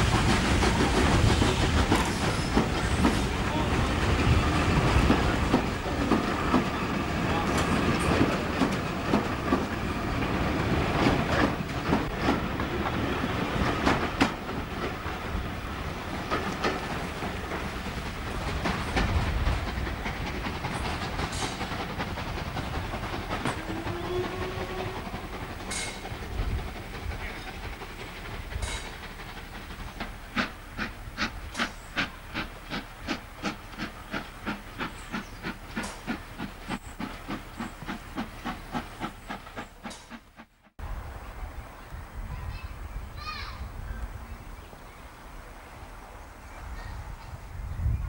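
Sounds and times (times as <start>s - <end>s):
steam hissing: 0.0s - 40.8s.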